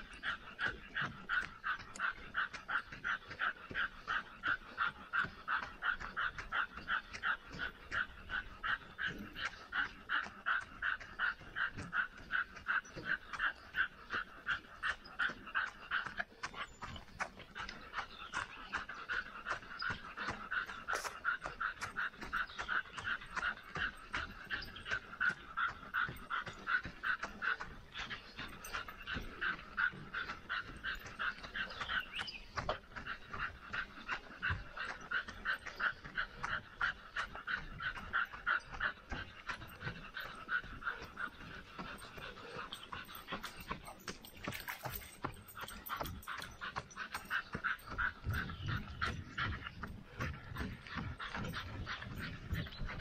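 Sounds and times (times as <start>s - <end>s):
dog panting: 0.0s - 53.0s.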